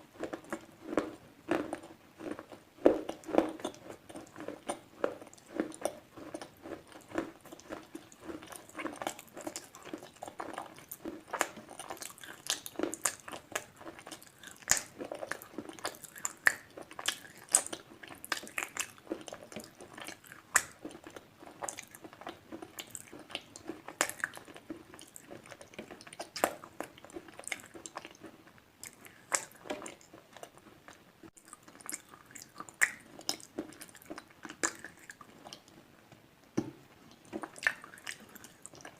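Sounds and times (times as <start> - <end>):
crisp chewing crunches: 0.1 - 35.8, 37.1 - 38.9.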